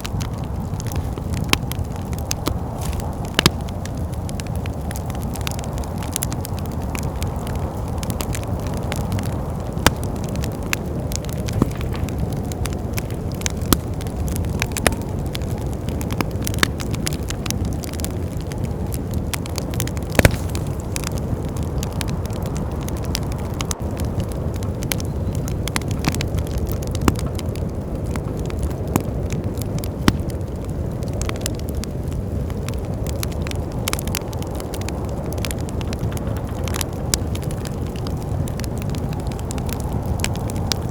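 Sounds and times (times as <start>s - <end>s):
low rush of wind: 0.0s - 40.9s
wood fire crackling and popping: 0.0s - 40.9s.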